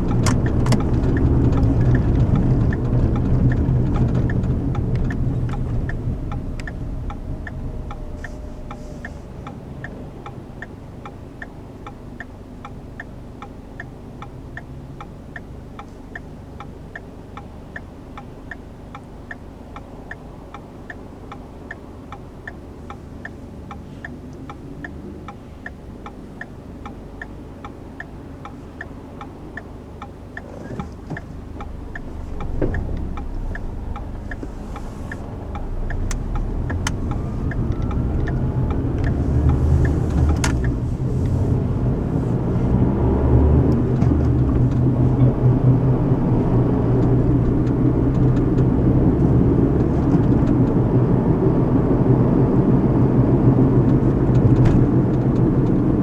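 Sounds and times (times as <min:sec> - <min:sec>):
engine and road rumble: 0:00.0 - 0:56.0
turn signal ticking: 0:00.0 - 0:56.0.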